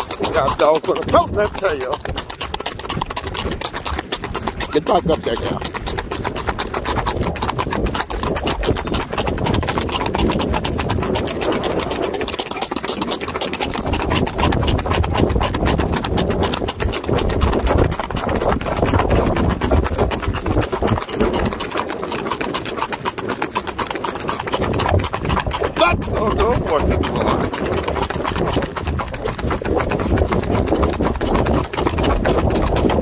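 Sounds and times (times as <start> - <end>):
horses hooves on pavement: 0.0 - 33.0.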